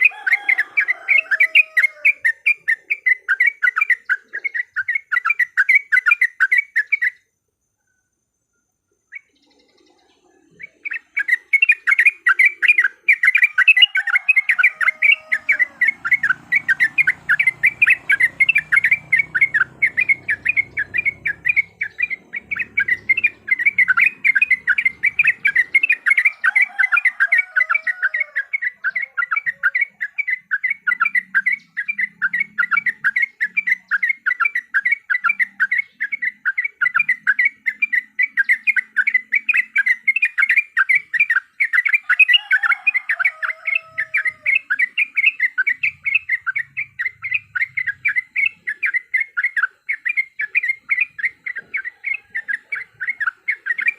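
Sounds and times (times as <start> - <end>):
birds chattering calls: 0.0 - 7.4, 8.7 - 53.9.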